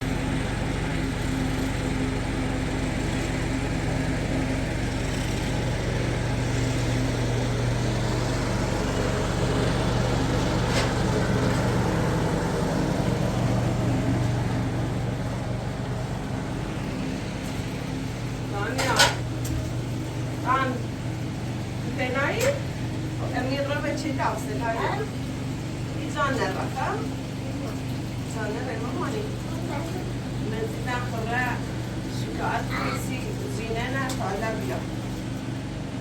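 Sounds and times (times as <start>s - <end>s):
engine humming: 0.0s - 36.0s.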